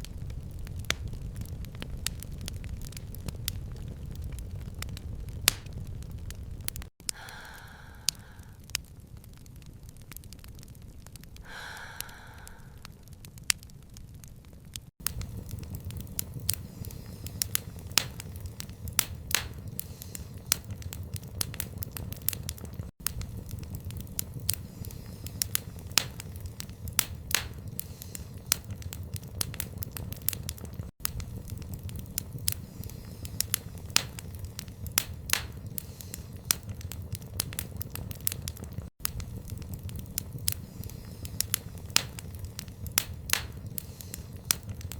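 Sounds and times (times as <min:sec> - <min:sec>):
low rumble of flames: 0:00.0 - 0:44.9
wood fire crackling: 0:00.0 - 0:44.9.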